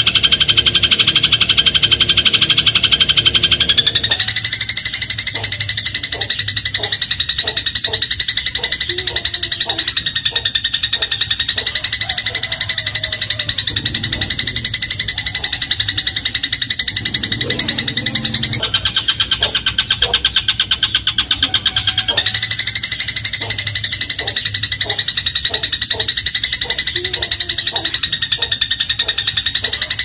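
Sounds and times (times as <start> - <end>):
sparrow chirping rapidly: 0.0 - 30.0.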